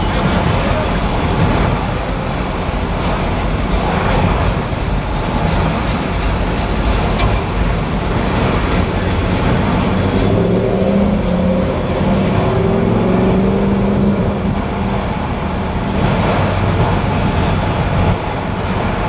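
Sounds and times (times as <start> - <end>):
wheels clicking over rail joints: 0.0 - 12.6, 13.2 - 19.0
train wheels running on rails: 0.0 - 19.0.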